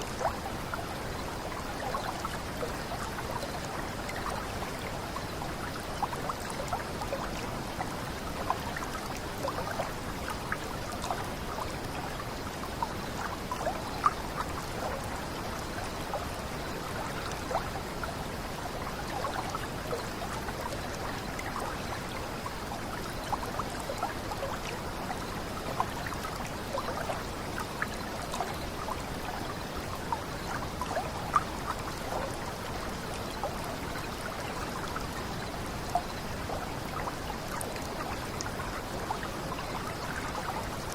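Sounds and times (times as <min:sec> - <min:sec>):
small splashes and trickles: 0:00.0 - 0:40.9.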